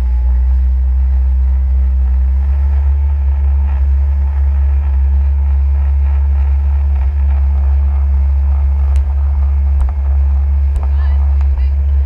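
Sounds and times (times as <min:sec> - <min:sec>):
jet ski engine running: 0:00.0 - 0:12.0.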